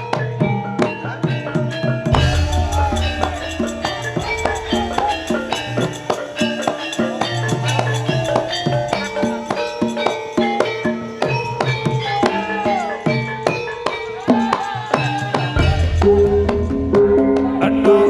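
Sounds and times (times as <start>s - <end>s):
hand drums: 0.0s - 17.8s
struck pitched percussion: 0.0s - 18.0s.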